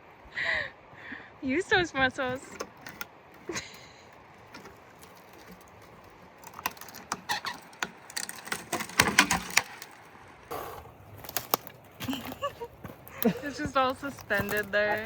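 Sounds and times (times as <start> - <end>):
twigs and branches snapping: 2.3 - 15.0.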